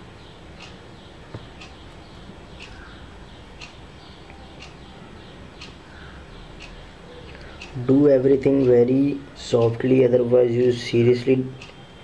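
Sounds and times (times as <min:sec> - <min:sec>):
bird chirping: 0:00.0 - 0:10.9
low steady hum: 0:00.0 - 0:12.0.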